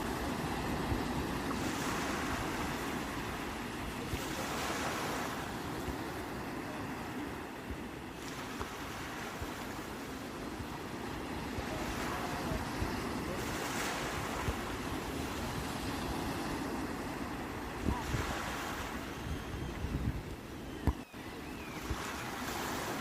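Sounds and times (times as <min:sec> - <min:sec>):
sea waves breaking on shore: 0:00.0 - 0:23.0
wind rumble on microphone: 0:00.0 - 0:23.0.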